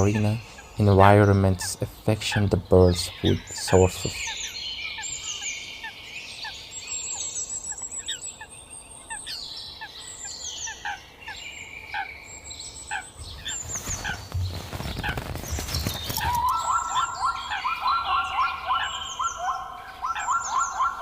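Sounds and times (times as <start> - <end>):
bird trills: 0.0 - 21.0
birds chirping: 0.0 - 21.0.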